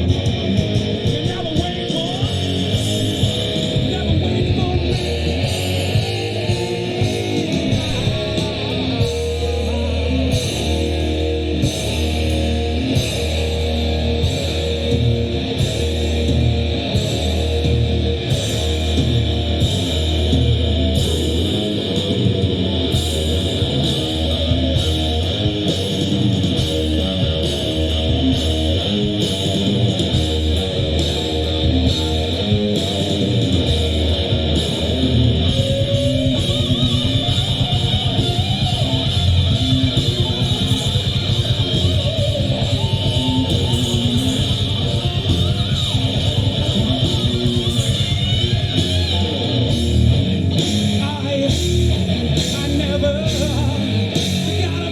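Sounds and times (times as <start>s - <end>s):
drum beat: 0.0s - 9.6s, 14.2s - 50.3s
bass line: 0.0s - 54.9s
distorted electric guitars: 0.0s - 54.9s.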